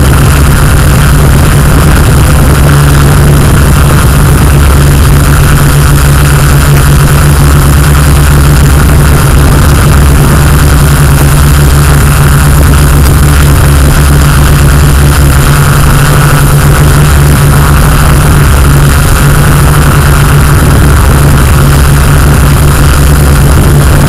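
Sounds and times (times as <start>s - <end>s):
drone motors humming: 0.0s - 24.0s.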